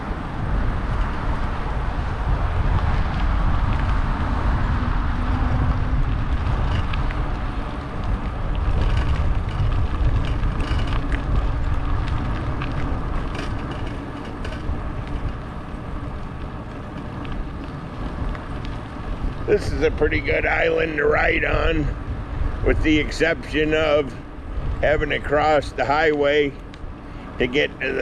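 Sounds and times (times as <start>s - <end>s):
tyre rumble on asphalt: 0.0s - 28.0s
wind rushing over microphone: 0.0s - 28.0s.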